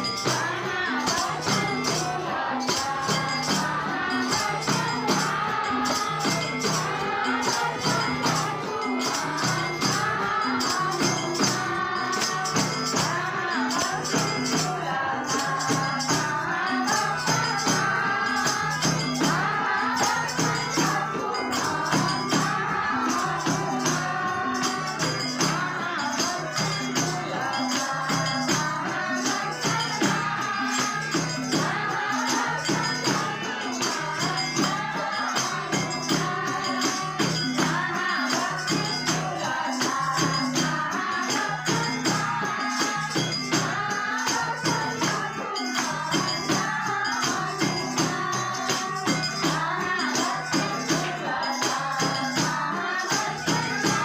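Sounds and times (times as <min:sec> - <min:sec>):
jingling hand percussion: 0:00.0 - 0:54.0
voices singing together: 0:00.0 - 0:54.0.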